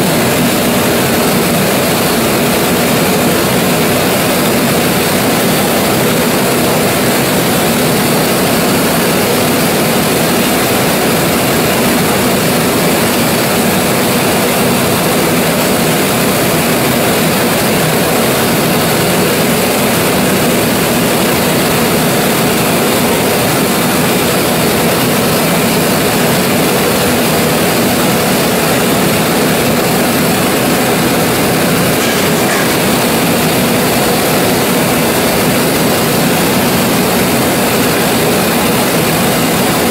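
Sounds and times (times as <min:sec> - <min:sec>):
oil engine running loudly: 0:00.0 - 0:39.9.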